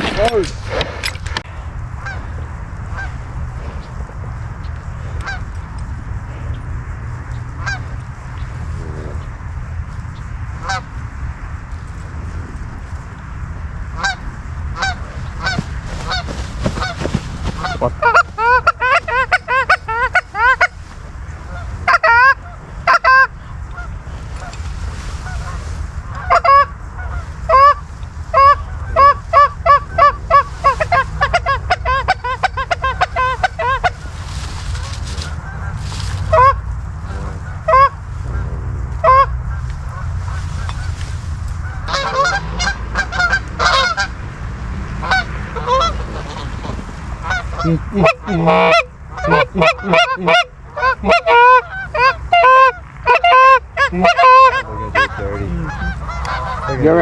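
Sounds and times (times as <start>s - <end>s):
geese honking: 0.0s - 11.0s, 13.9s - 57.0s
low wind rumble: 0.0s - 57.0s.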